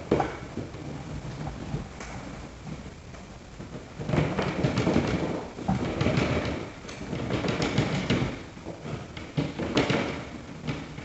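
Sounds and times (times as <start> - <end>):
cables rustling and scraping on drywall: 0.0 - 11.0
knocks: 0.0 - 11.0.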